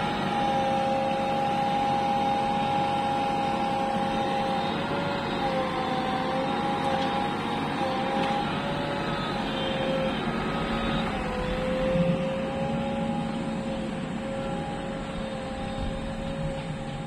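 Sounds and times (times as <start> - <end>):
diesel engine running: 0.0 - 17.0
steady whine: 0.0 - 17.0.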